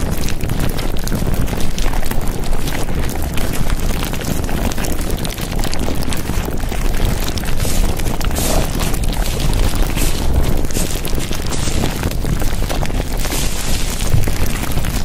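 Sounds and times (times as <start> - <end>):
loud rushing noise with crackling: 0.0 - 15.0.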